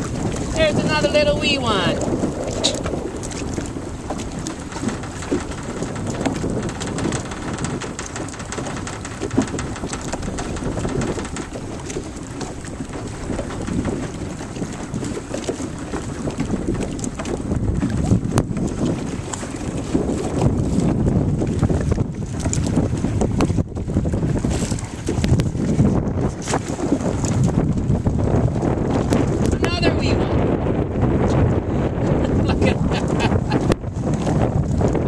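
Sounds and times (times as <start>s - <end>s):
water lapping and splashing: 0.0s - 35.0s
wind buffeting microphone: 0.0s - 35.0s.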